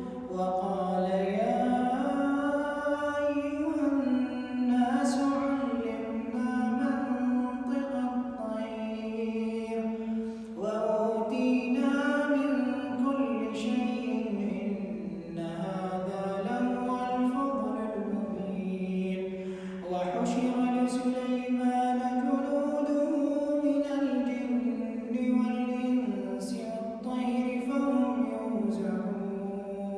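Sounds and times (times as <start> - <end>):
man chanting recitation: 0.0 - 29.9.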